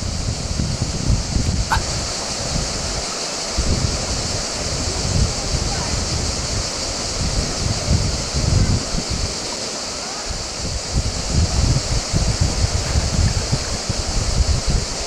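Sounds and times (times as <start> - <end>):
river rapid rushing over rocks: 0.0 - 15.0
wind buffeting microphone: 0.0 - 15.0.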